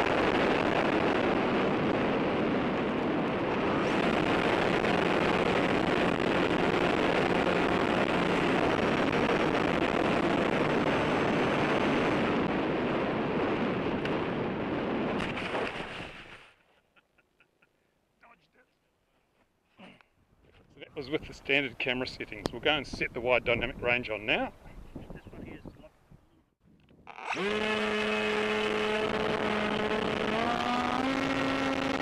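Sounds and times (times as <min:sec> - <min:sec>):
wind rushing on microphone: 0:00.0 - 0:16.4, 0:21.0 - 0:32.0.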